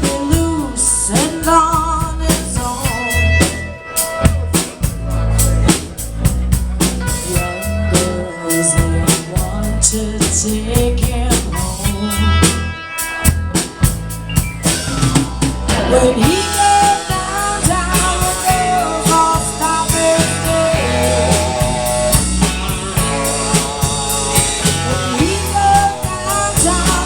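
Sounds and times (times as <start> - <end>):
drum kit beat: 0.0 - 27.0
rock band playing: 0.0 - 27.0.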